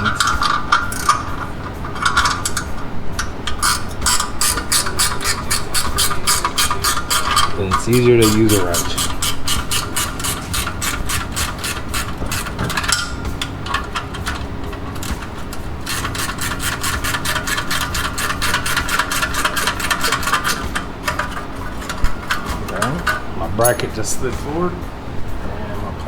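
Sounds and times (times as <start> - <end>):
ratcheting wrench clicking: 0.0 - 23.9.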